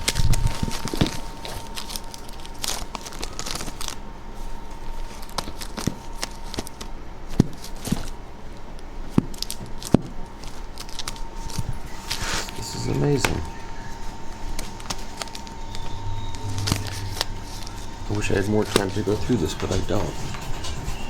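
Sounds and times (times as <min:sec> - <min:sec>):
record sleeves rustling: 0:00.0 - 0:21.0.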